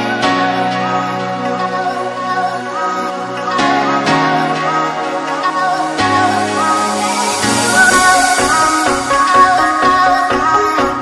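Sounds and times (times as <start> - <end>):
melodic music with steady beat: 0.0 - 11.0.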